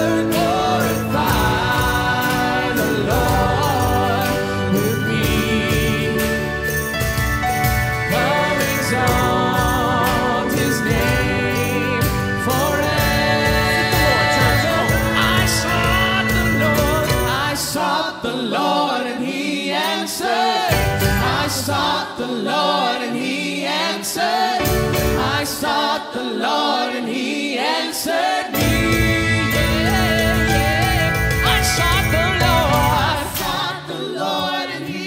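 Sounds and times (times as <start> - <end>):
group of singers singing: 0.0 - 35.0
worship band playing: 0.0 - 35.0.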